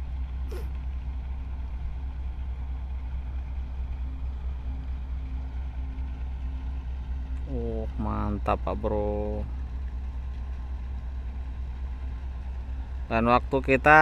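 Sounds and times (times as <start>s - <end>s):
tugboat diesel engine drone: 0.0s - 14.0s.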